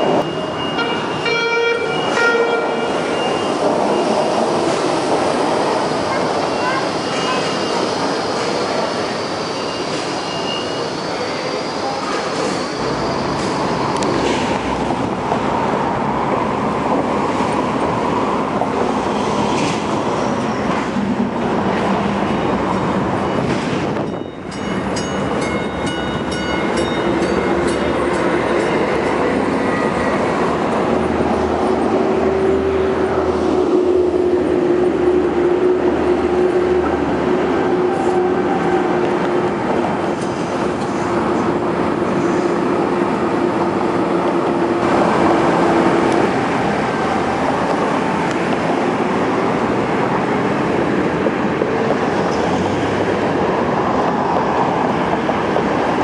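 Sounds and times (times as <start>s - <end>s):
light rail cars running on tracks: 0.0s - 56.0s.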